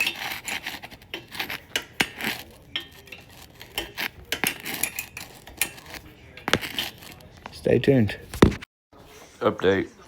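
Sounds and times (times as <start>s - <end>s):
metal tools clinking and scraping: 0.0s - 8.2s.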